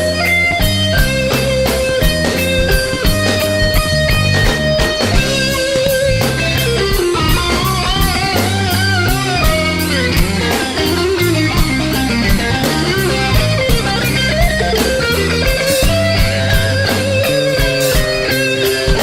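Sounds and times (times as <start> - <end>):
bass line: 0.0 - 19.0
lead electric guitar: 0.0 - 19.0
steady drum beat: 0.0 - 19.0.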